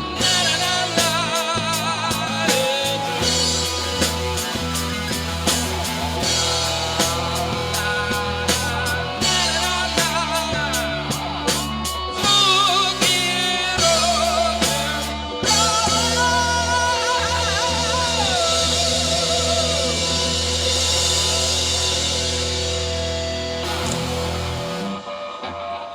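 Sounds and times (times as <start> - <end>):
bending guitar lead: 0.0 - 25.9
live rock band playing: 0.0 - 25.9.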